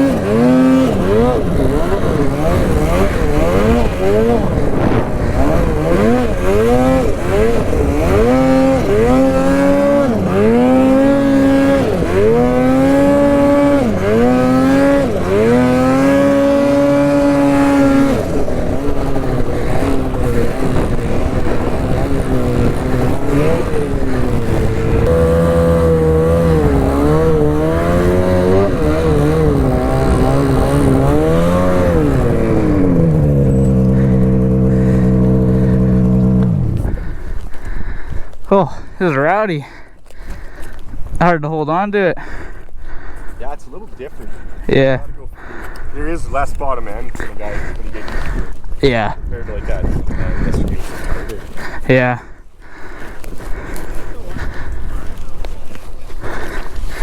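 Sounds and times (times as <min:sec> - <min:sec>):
snowmobile engine revving: 0:00.0 - 0:37.5, 0:38.5 - 0:39.8, 0:43.5 - 0:52.3.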